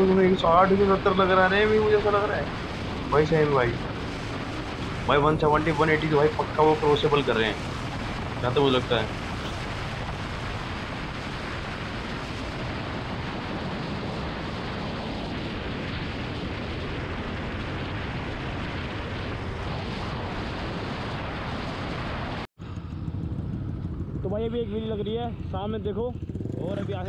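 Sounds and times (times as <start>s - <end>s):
motorcycle engine and tyre noise: 0.0s - 27.0s
wind buffeting microphone: 0.0s - 27.0s.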